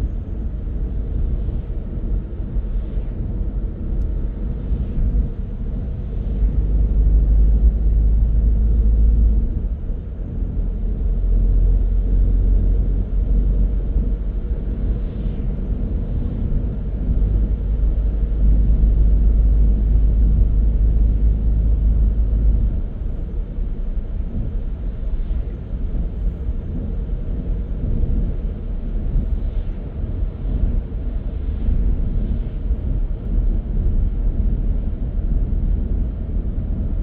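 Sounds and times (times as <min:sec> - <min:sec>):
car driving on road: 0:00.0 - 0:37.0.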